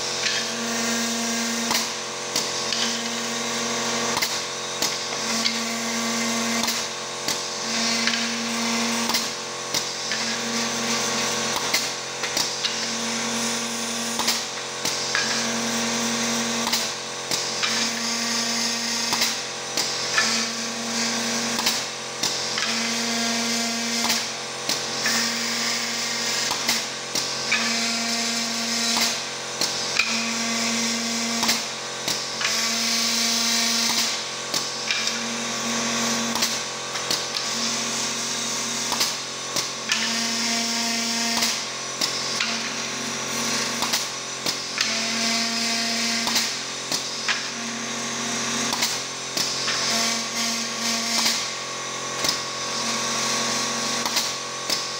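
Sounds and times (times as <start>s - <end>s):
drilling whine: 0.0s - 54.9s.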